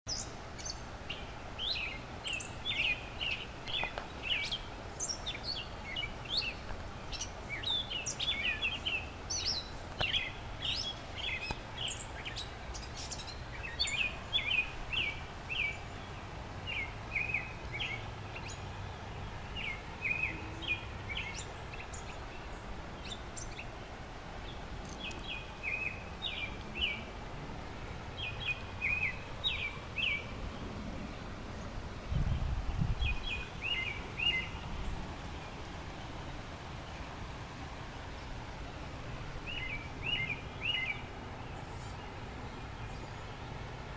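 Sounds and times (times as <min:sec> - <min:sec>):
steady background noise: 0:00.1 - 0:43.9.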